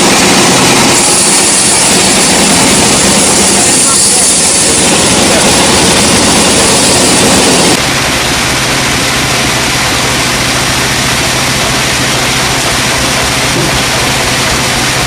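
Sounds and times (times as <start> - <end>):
motor hum: 0.0 - 15.0
sawmill machinery running: 0.0 - 15.0.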